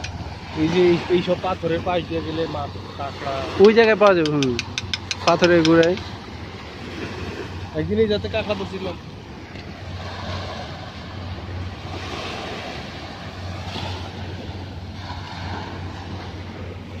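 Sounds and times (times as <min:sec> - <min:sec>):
small waves washing onto sand: 0:00.0 - 0:17.0
wind rumbling on microphone: 0:00.0 - 0:17.0.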